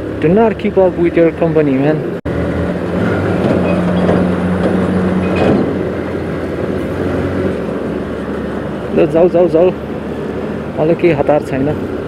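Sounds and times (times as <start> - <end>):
motorcycle engine hum: 0.0 - 12.0
road rumble: 0.0 - 12.0
wind: 0.0 - 12.0.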